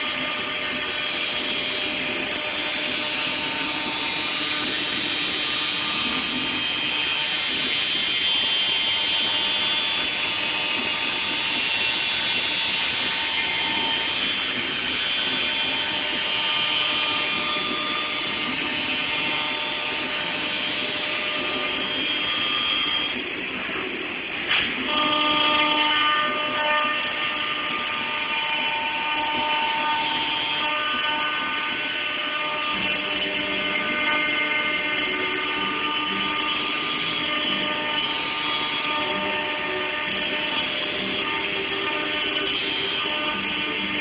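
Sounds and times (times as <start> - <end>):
cnc router whining: 0.0 - 44.0.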